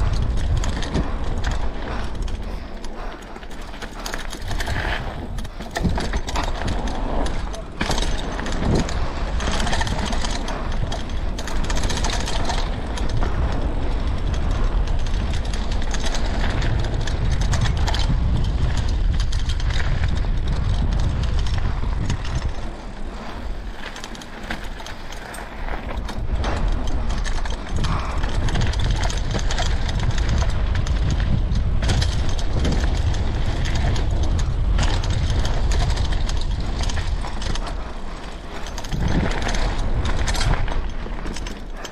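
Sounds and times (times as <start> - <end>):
bike rattling: 0.0 - 41.9
tyres rumbling over dirt: 0.0 - 41.9
wind rushing on microphone: 0.0 - 41.9.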